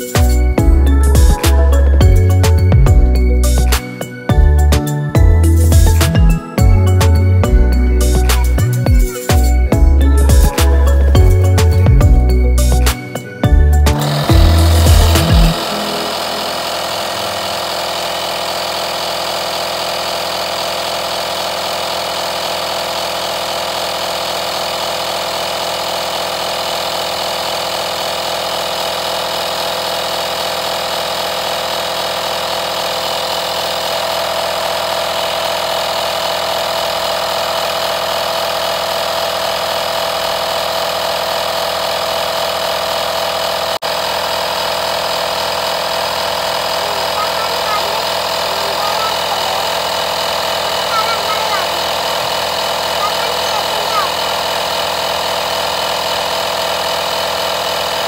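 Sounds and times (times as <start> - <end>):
tyre inflator compressor pumping: 0.0 - 58.0.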